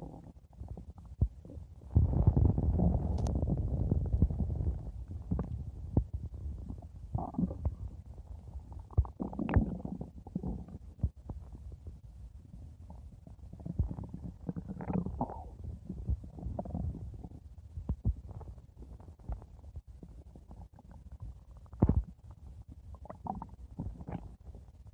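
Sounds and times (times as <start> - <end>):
stomach growling and gurgling: 0.0 - 24.9.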